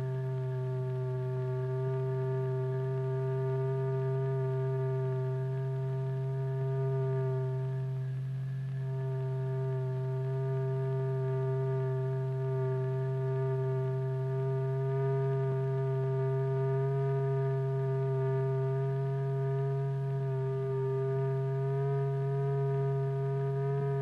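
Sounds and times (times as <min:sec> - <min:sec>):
steady electronic tone: 0:00.0 - 0:24.0.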